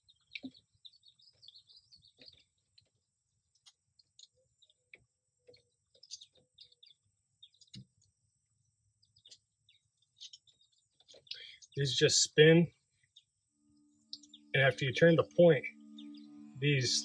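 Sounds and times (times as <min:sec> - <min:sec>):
faint songbird chirping: 0:00.0 - 0:17.0.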